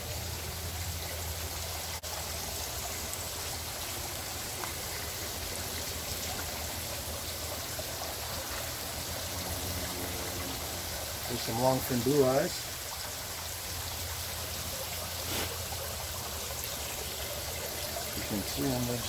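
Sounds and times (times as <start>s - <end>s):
water running and trickling: 0.0s - 19.0s.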